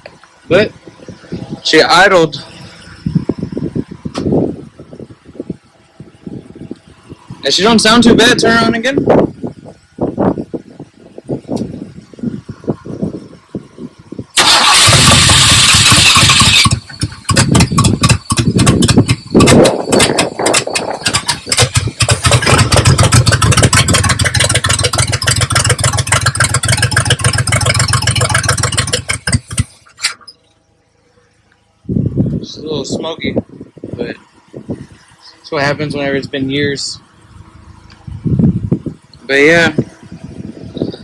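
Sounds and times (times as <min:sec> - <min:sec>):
car engine cranking and running rough: 0:00.0 - 0:41.0.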